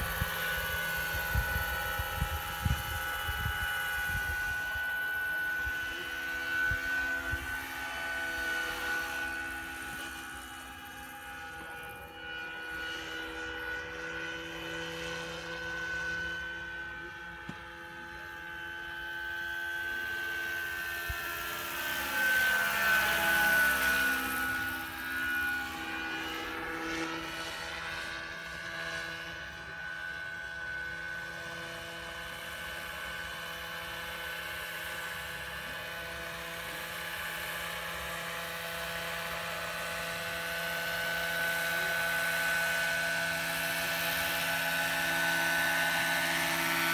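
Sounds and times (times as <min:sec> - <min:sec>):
model helicopter motor whine: 0:00.0 - 0:46.9.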